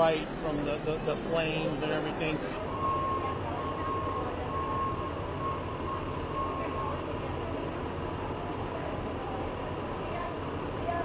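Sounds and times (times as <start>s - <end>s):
bus engines idling: 0.0s - 11.0s.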